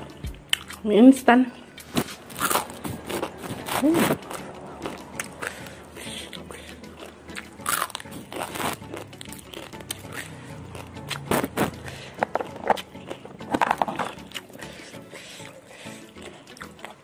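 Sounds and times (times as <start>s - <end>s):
dry noodles crunching when chewed: 0.5s - 0.8s, 1.6s - 17.0s.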